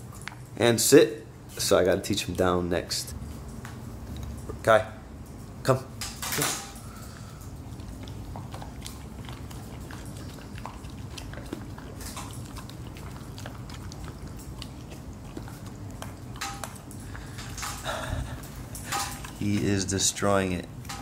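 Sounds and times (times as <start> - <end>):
puppy chewing and licking: 0.0 - 21.0.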